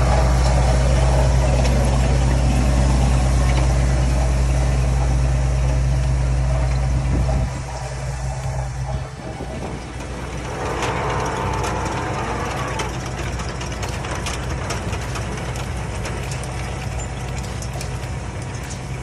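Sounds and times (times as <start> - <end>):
clicks and rattles: 0.0 - 19.0
diesel machinery engine hum: 0.0 - 19.0.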